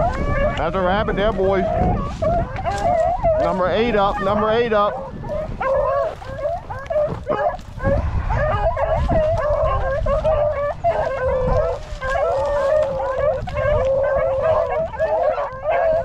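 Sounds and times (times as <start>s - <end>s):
hounds baying: 0.0s - 16.0s.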